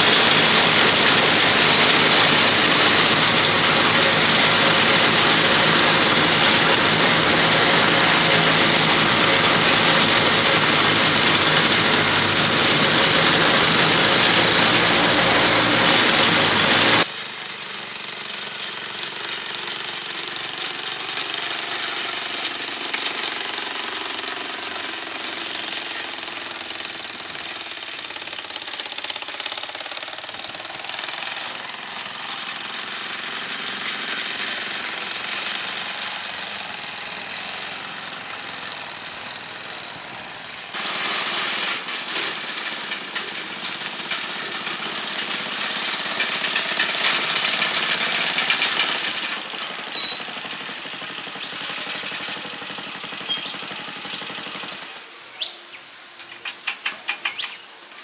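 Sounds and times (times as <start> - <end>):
small engine knocking: 0.0 - 55.1.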